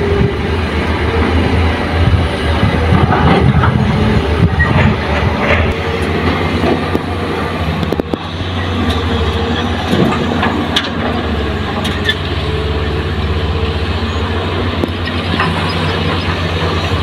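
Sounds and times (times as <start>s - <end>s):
excavator diesel engine running: 0.0s - 17.0s
soil loading into dump truck: 0.1s - 17.0s.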